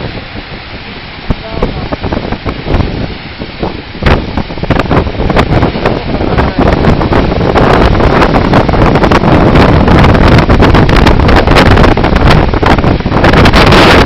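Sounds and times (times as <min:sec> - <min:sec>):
rushing flood torrent: 0:00.0 - 0:14.0
wind buffeting microphone: 0:00.0 - 0:14.0.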